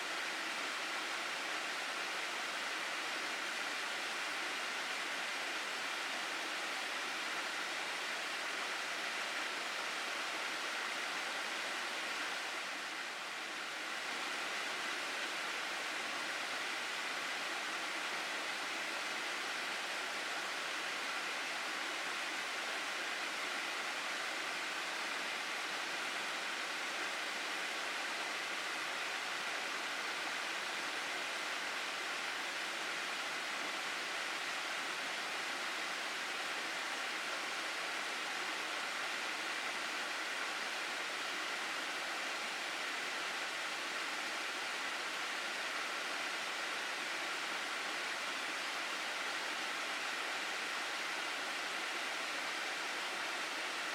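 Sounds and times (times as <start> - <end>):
stream rushing over rocks: 0.0 - 53.9.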